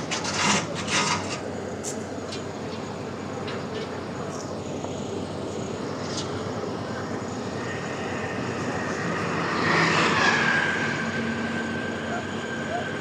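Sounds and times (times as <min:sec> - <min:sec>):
heavy engine running: 0:00.0 - 0:13.0
high steady whine: 0:00.0 - 0:13.0.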